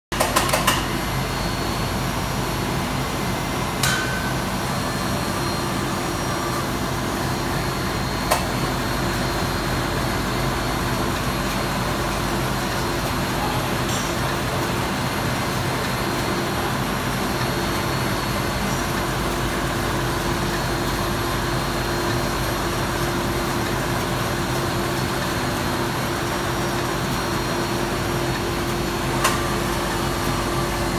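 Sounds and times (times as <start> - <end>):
machine humming and hissing: 0.2 - 30.9.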